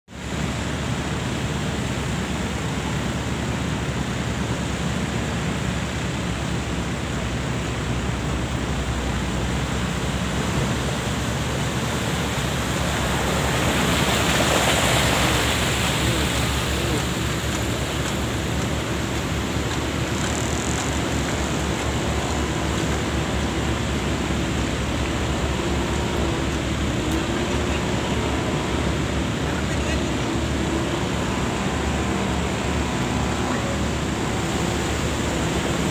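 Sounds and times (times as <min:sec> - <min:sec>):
rushing water: 0:00.1 - 0:35.9
vehicle splashing through water: 0:00.1 - 0:35.9.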